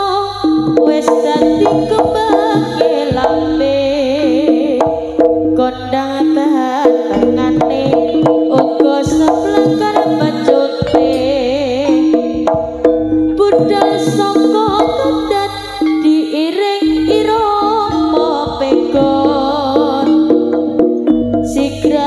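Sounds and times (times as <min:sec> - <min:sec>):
gamelan instruments: 0:00.0 - 0:22.0
hand drums beating: 0:00.0 - 0:22.0
wavering melody line: 0:00.0 - 0:22.0.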